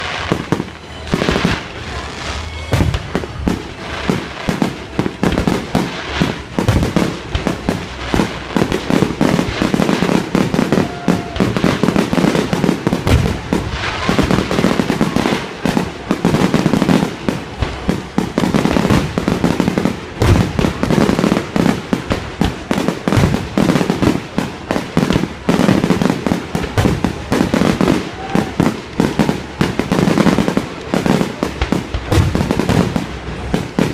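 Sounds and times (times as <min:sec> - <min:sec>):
fireworks bangs and crackling: 0:00.0 - 0:33.9
heavy firework booms: 0:00.0 - 0:33.9.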